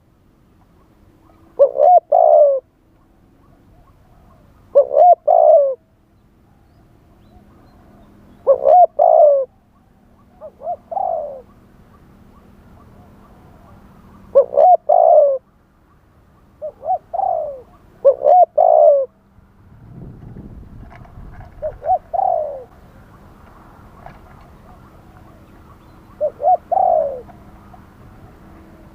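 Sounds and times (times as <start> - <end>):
dove cooing: 0.6 - 5.8, 7.2 - 15.5, 16.4 - 19.2, 20.3 - 28.9.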